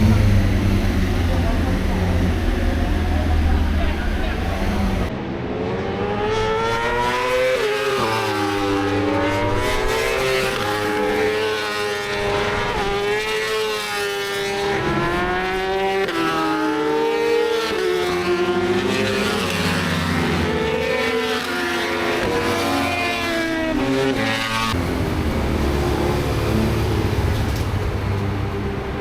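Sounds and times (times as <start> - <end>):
racing motorcycle engines: 0.0 - 29.0.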